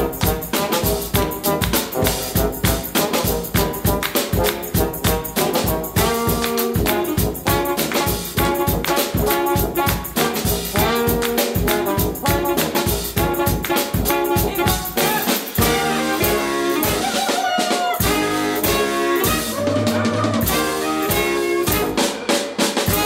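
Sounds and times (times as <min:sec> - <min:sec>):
drum kit beat: 0:00.0 - 0:23.0
funk brass band playing: 0:00.0 - 0:23.0.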